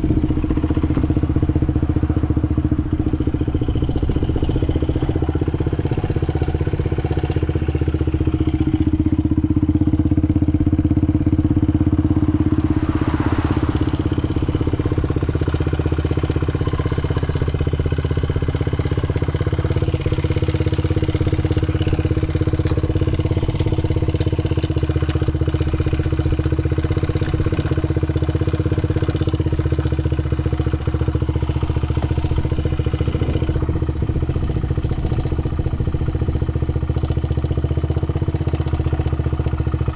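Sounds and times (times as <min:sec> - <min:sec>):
motorbike engine idling: 0:00.0 - 0:39.9.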